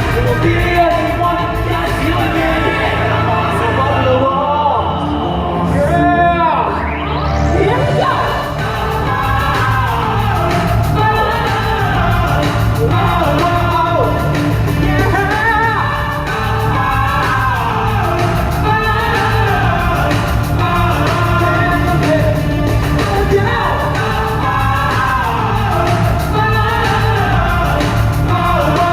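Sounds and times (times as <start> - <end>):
bass-heavy backing track: 0.0 - 28.9
person singing live: 0.0 - 28.9.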